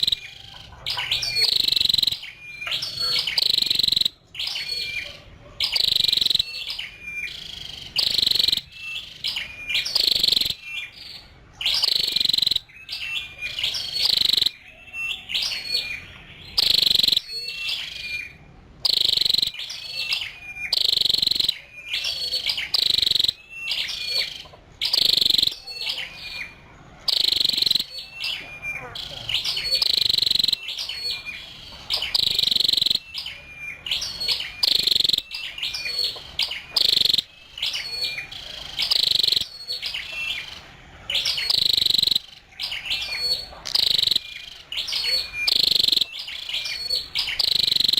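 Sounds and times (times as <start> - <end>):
bird high sharp chirps: 0.0 - 47.9.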